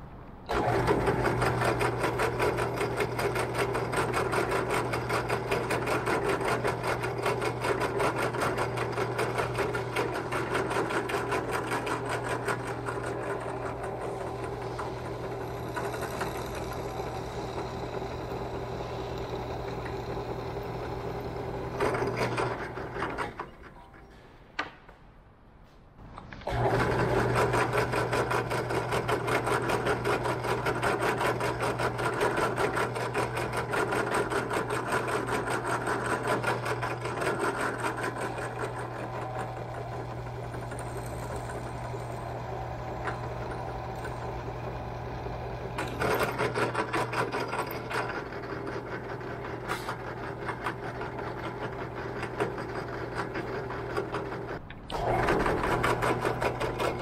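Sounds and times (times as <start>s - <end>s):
drill press motor hum: 0.5s - 24.2s, 26.2s - 57.0s.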